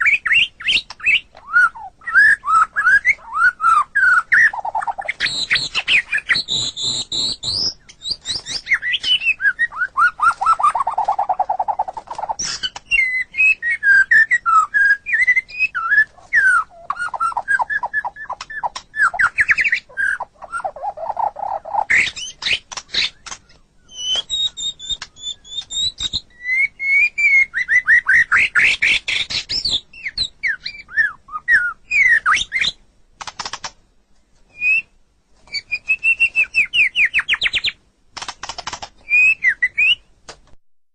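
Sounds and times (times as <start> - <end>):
songbird singing varied song: 0.0 - 33.5, 34.5 - 37.8, 39.0 - 40.1.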